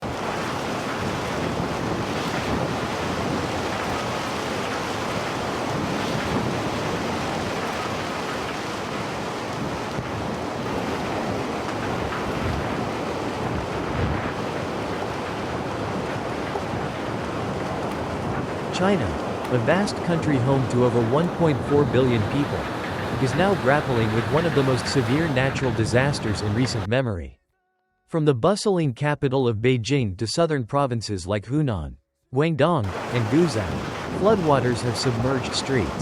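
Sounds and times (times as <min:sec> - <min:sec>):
rushing floodwater roar: 0:00.0 - 0:26.9, 0:32.9 - 0:36.0.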